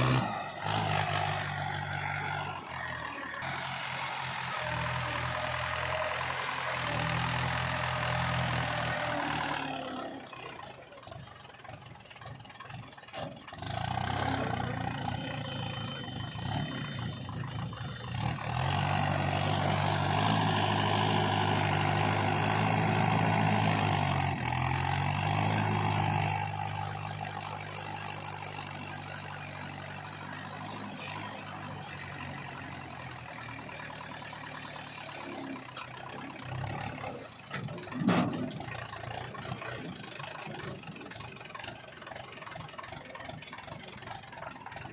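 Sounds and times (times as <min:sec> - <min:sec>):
engine running: 0:00.0 - 0:44.9.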